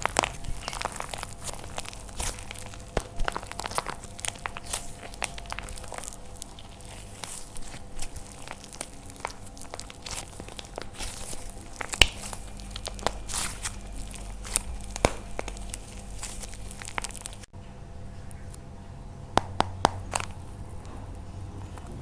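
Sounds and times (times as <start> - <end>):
dried clay crackling and crunching: 0.0 - 22.0.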